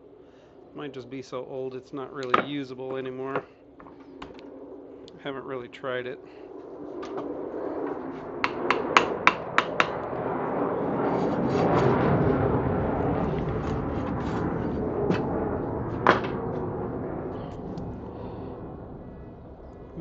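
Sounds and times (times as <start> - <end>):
jet flying over: 0.0 - 20.0.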